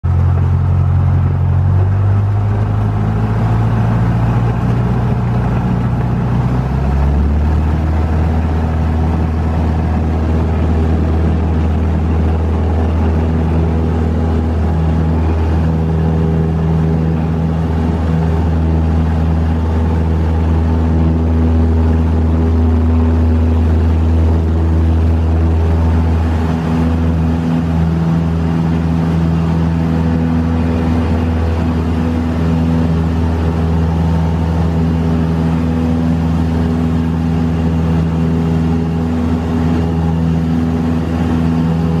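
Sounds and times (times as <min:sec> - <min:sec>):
propeller plane engine at high power: 0:00.0 - 0:42.0.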